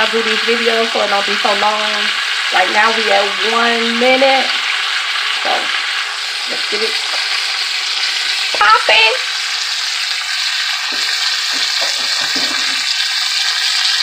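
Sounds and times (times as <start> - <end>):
steaks sizzling in butter: 0.0 - 14.0.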